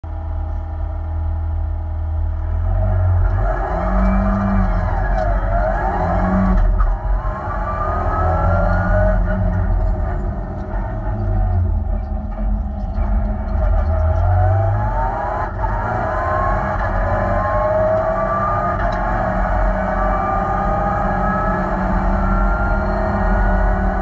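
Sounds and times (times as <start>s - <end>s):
rally car engine accelerating: 0.1s - 24.0s.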